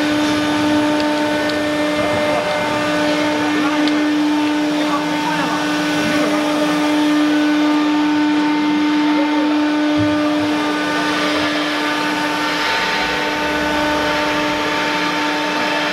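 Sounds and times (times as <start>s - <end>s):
router spindle whining: 0.0s - 15.9s.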